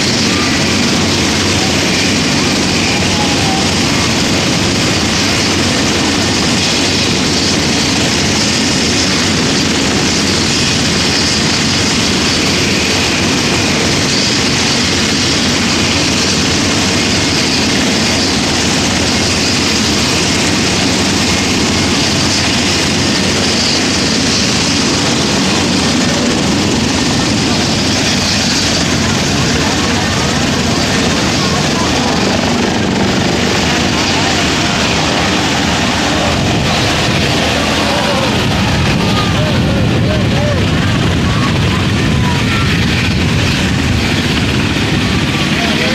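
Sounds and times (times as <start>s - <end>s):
helicopter turbine whine and rotors: 0.0s - 45.9s.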